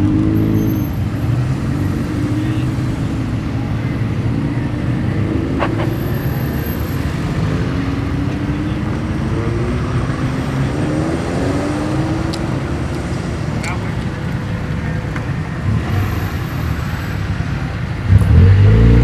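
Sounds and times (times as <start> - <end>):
car engines accelerating: 0.0 - 19.0
low rumble of traffic: 0.0 - 19.0.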